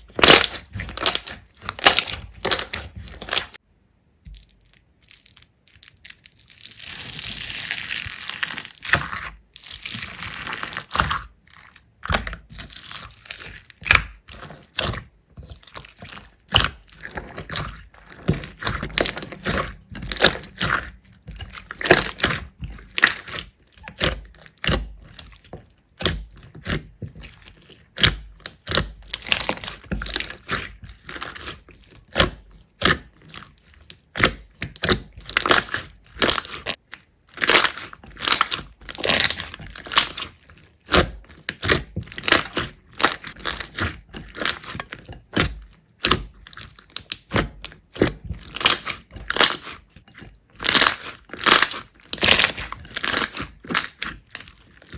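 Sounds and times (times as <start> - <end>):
slime crackling and popping: 0.0 - 3.6, 4.2 - 54.9.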